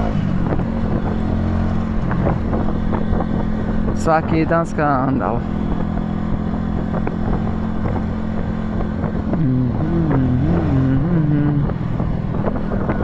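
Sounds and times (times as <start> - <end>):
motorcycle engine running: 0.0 - 13.0
wind rushing: 0.0 - 13.0.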